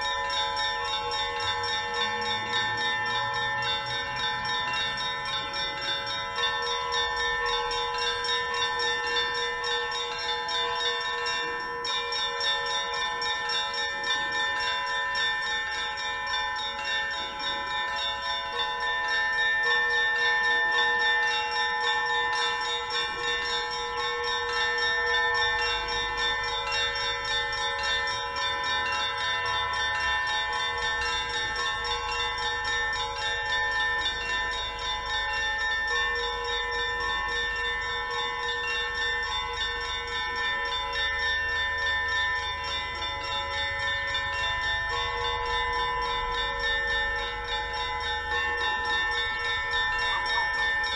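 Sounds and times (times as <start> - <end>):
lower bells ringing: 0.0 - 50.9.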